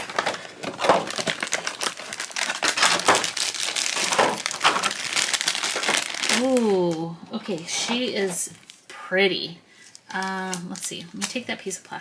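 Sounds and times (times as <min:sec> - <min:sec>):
plastic packaging crinkling: 0:00.0 - 0:08.9, 0:09.8 - 0:11.6.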